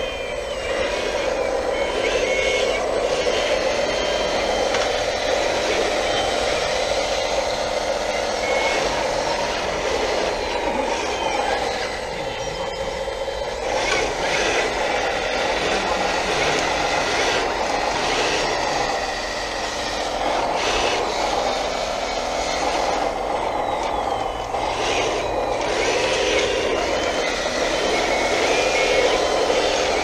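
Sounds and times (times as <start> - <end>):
electric hydraulic pump whine: 0.0 - 30.0.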